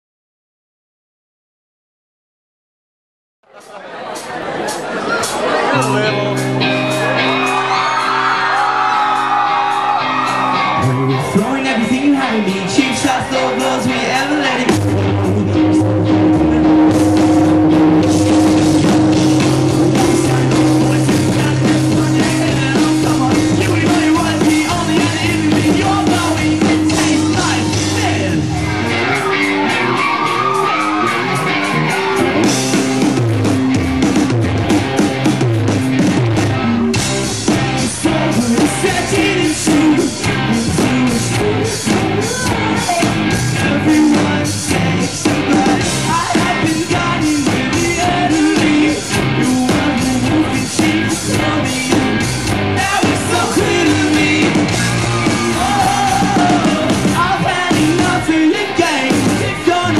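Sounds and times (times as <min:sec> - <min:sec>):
drums beating: 0:03.5 - 0:59.9
live rock band: 0:03.5 - 0:59.9
person singing: 0:05.7 - 0:32.7, 0:37.5 - 0:59.9.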